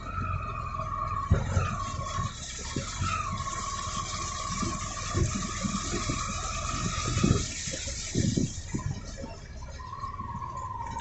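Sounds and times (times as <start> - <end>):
vehicle drive whine: 0.0 - 11.0
wheels rumbling: 0.0 - 11.0.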